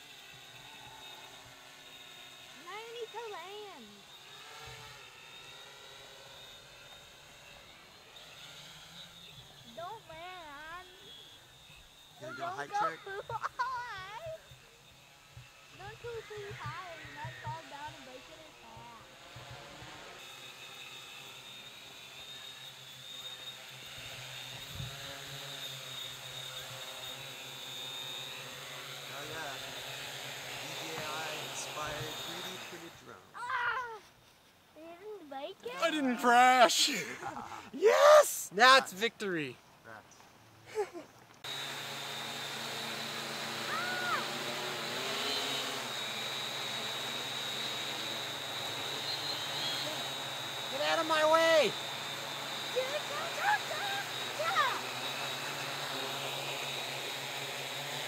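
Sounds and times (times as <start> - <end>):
quadcopter propellers whining: 0.0 - 40.0, 40.7 - 58.0.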